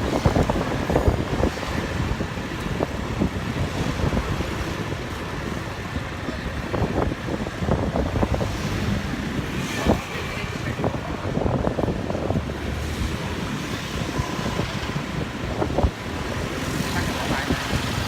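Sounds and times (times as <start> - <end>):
traffic noise: 0.0 - 18.0
wind buffeting microphone: 0.0 - 18.0.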